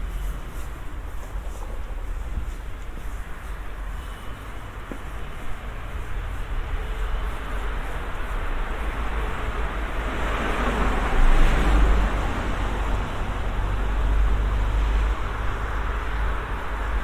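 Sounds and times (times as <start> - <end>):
car passing: 0.0 - 17.0
low rumble of street traffic: 0.0 - 17.0.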